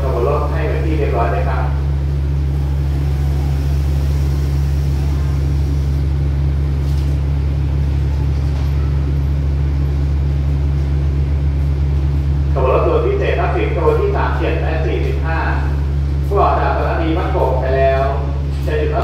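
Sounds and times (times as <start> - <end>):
diesel train engines idling: 0.0 - 19.0.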